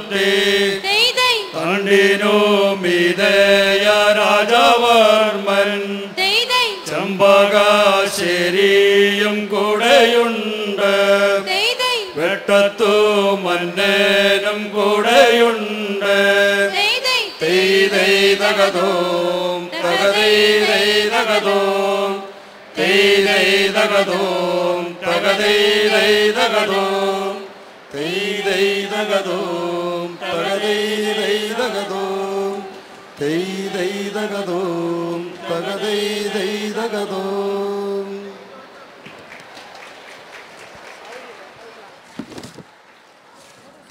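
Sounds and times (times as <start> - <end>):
group singing in unison: 0.0 - 38.3.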